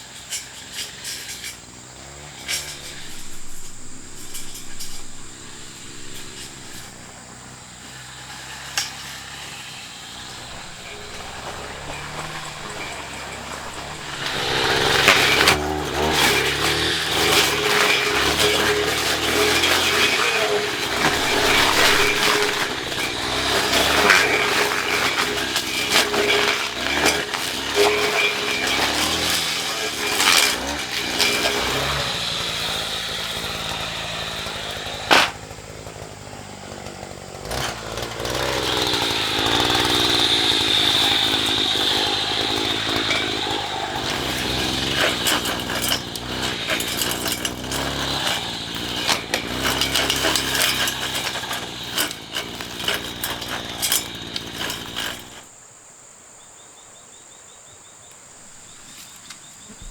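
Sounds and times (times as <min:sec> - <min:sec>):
small petrol engine running: 0:00.0 - 0:55.5.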